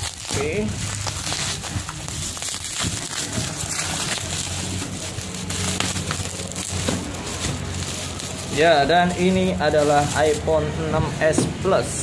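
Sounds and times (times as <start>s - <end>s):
bubble wrap crinkling: 0.0s - 10.6s.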